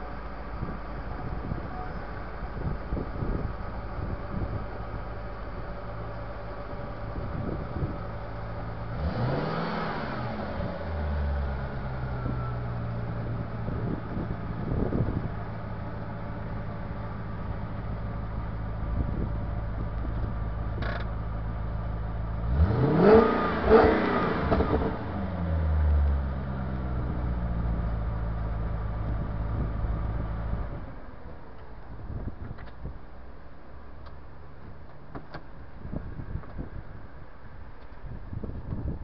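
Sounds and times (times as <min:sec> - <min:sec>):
car engine idling and revving: 0:00.0 - 0:39.0.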